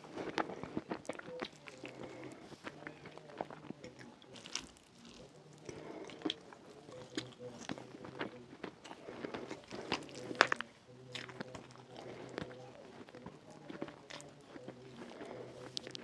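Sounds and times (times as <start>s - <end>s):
fingers squishing food: 0.0s - 16.0s
chewing with wet mouth clicks: 0.1s - 16.0s.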